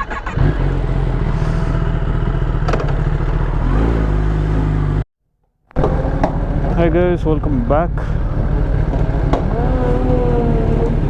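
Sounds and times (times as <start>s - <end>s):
motorcycle engine running: 0.0s - 5.0s, 5.8s - 11.0s.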